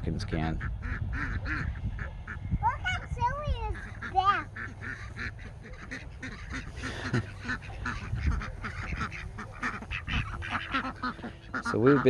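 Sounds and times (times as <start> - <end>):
poultry calling: 0.1 - 12.0.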